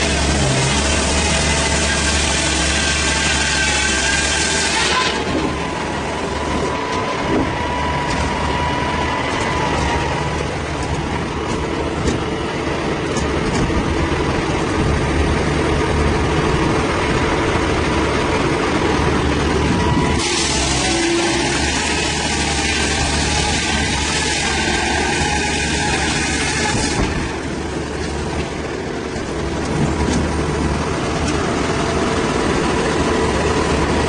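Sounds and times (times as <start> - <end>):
large engine running: 0.0 - 34.0.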